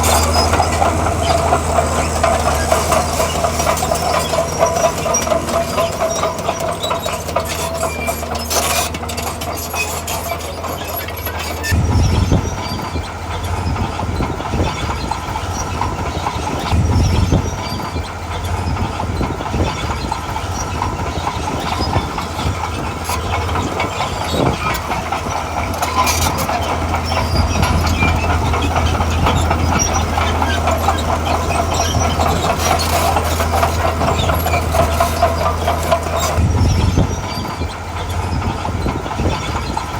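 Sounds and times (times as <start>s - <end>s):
diesel engine under load: 0.0s - 39.9s
steel tracks clattering: 0.0s - 39.9s.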